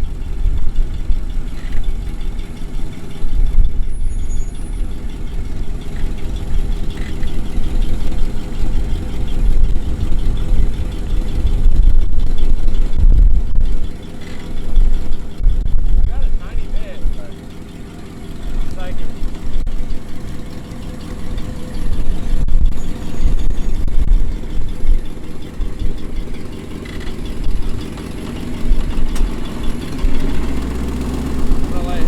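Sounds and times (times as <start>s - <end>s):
off-road vehicle engine rumble: 0.0s - 32.0s.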